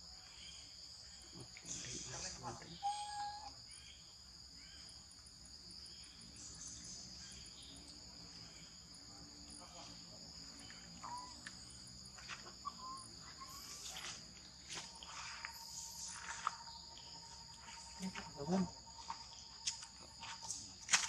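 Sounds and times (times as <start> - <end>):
insect chorus drone: 0.0 - 21.0.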